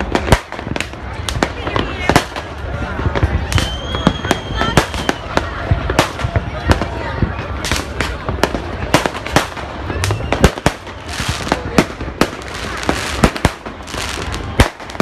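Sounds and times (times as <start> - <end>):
fireworks bangs and pops: 0.0 - 15.0
steady noisy background: 0.0 - 15.0.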